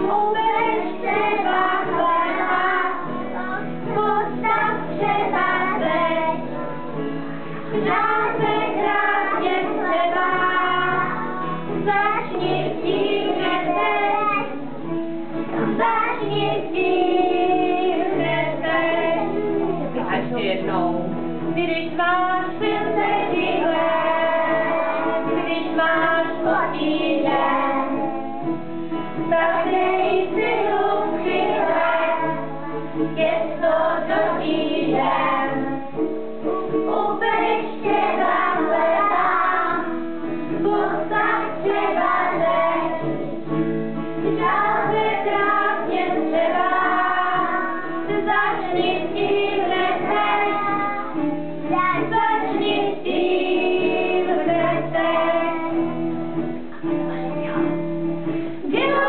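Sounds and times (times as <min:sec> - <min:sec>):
children and woman singing: 0:00.0 - 0:59.0.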